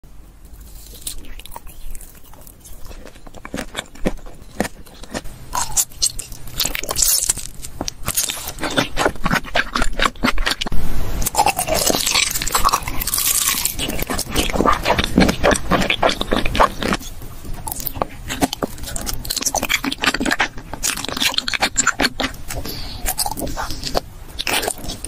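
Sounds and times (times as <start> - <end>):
crunching: 0.5 - 25.0
sticky chewing: 0.6 - 25.0.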